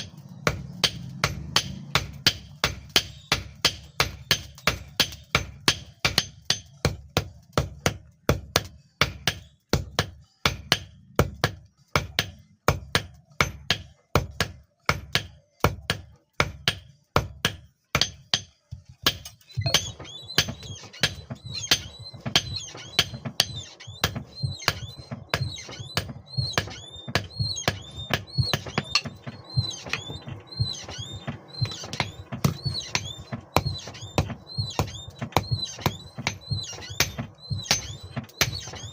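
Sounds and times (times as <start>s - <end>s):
hammer striking steel on anvil: 0.0s - 7.0s, 7.6s - 38.9s
steady background noise: 0.0s - 11.3s, 17.9s - 38.9s.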